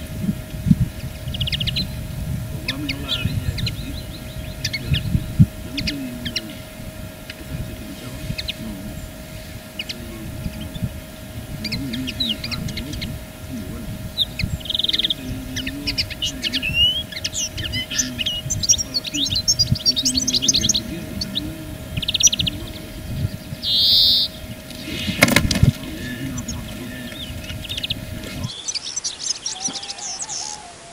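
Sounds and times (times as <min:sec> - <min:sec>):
buzzy bird trills: 0:00.0 - 0:30.9
small birds chirping: 0:00.0 - 0:30.9.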